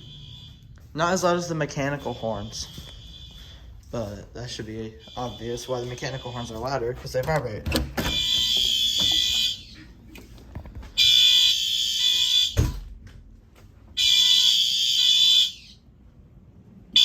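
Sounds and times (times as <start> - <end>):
fire alarm horns blasting: 0.0 - 9.9, 11.0 - 12.8, 13.9 - 15.9.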